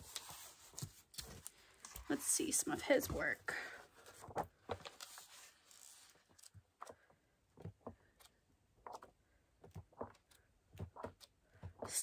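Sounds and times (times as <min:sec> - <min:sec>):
book pages turning: 0:00.0 - 0:11.9.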